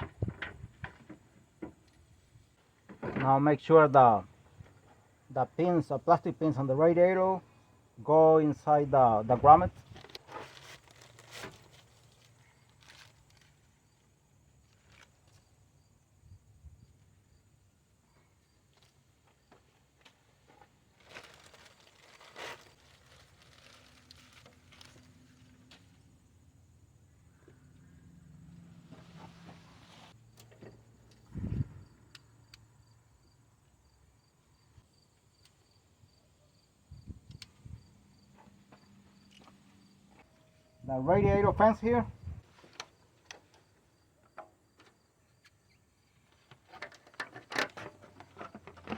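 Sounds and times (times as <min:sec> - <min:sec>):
faint cricket chirping: 0:00.0 - 0:48.9.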